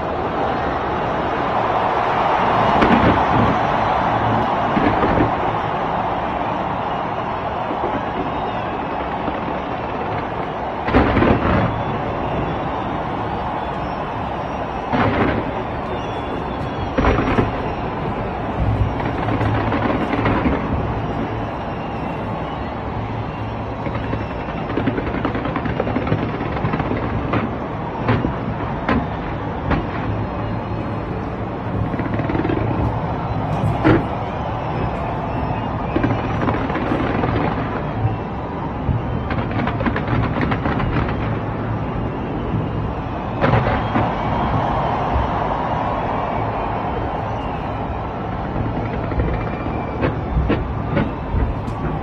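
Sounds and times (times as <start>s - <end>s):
fireworks booming and crackling: 1.8s - 52.0s.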